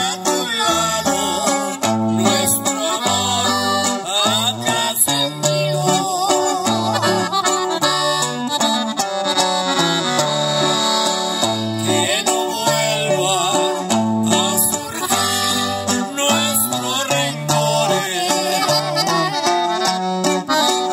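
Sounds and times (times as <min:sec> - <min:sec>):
low bass notes: 0:00.0 - 0:20.6
button accordion melody: 0:00.0 - 0:20.9
strummed guitar: 0:00.0 - 0:20.9.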